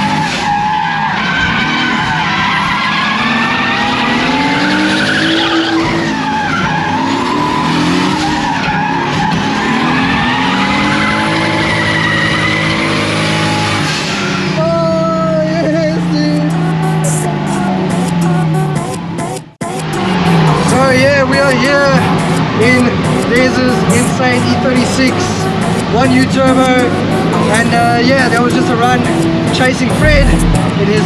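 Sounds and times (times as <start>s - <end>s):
car engine revving: 0.0s - 31.0s
tyres skidding and squealing: 0.0s - 31.0s.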